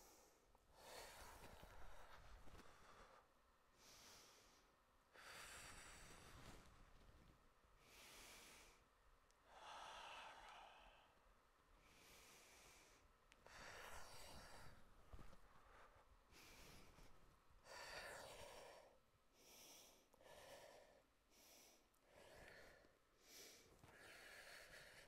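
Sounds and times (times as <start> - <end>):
woman breathing slowly: 0.0 - 25.0.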